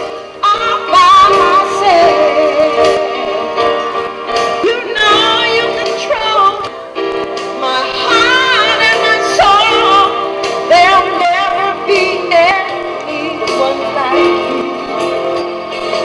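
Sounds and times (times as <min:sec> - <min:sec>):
lead melody with wide vibrato: 0:00.0 - 0:16.0
live band playing slow ballad: 0:00.0 - 0:16.0.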